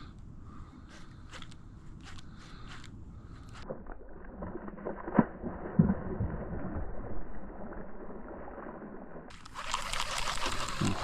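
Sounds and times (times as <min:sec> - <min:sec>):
low water noise: 0:00.0 - 0:11.0.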